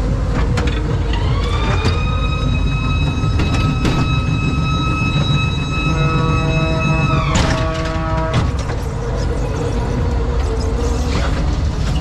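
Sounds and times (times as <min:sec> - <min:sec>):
ride car rumbling on track: 0:00.0 - 0:12.0.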